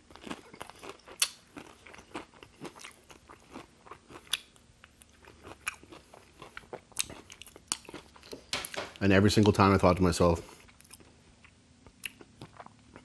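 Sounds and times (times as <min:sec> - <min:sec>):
crunchy chewing of fried chicken: 0:00.0 - 0:08.5, 0:10.4 - 0:13.0.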